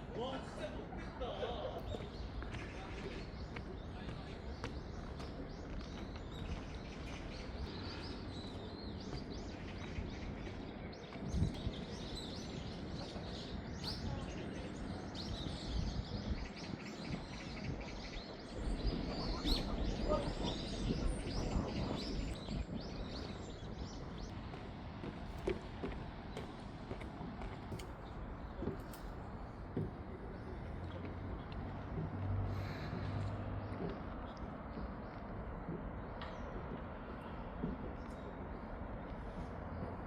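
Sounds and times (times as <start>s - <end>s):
outdoor background noise: 0.0s - 40.0s
small birds chirping: 0.0s - 40.0s.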